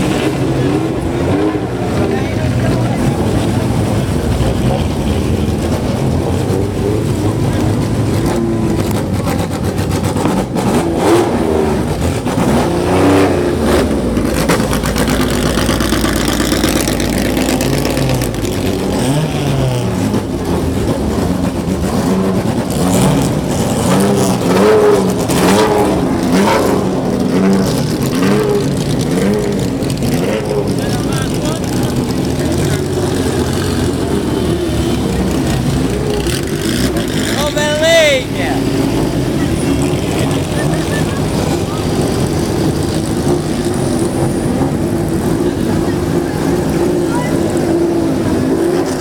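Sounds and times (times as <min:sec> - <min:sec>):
racing car engines revving: 0:00.0 - 0:49.0.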